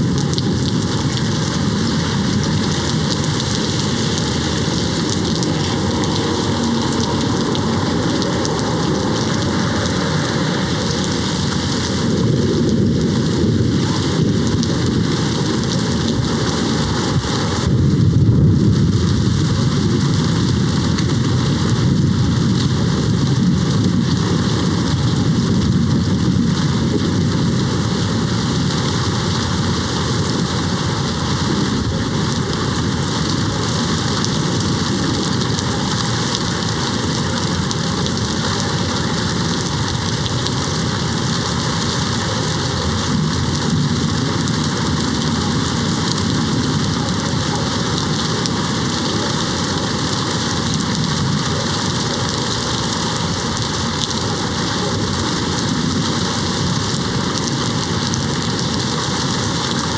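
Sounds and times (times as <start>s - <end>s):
distant thunder rumbling: 0.0s - 59.8s
rain hitting a window: 0.0s - 59.9s.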